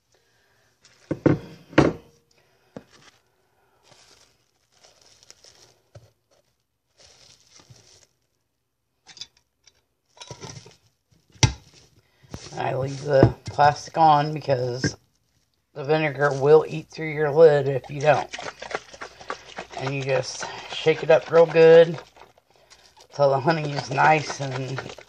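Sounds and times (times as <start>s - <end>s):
plastic cling wrap crinkling: 2.7s - 8.4s, 10.6s - 25.0s.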